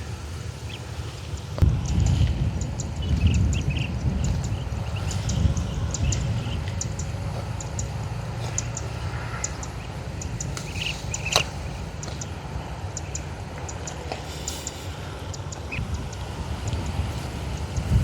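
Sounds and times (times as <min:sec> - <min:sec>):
low uneven rumble: 0:00.0 - 0:18.0.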